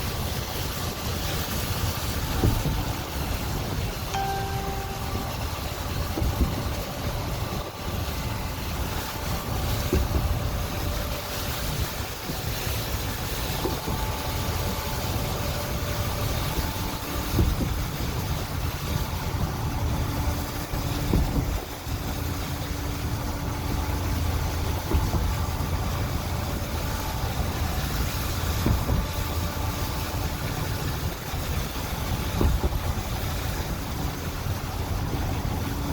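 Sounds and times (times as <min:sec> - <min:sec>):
storm wind gusting on microphone: 0:00.0 - 0:04.1, 0:04.8 - 0:35.9.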